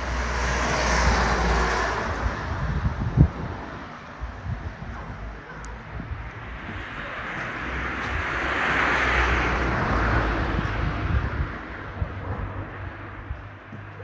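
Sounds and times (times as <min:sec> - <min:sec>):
vehicle passing by: 0:00.0 - 0:03.9, 0:06.0 - 0:13.4.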